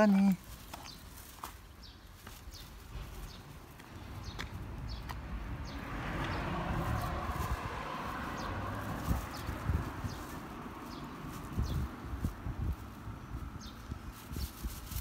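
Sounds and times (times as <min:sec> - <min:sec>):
small birds chirping: 0:00.0 - 0:15.0
rushing noise with low rumble: 0:02.8 - 0:15.0.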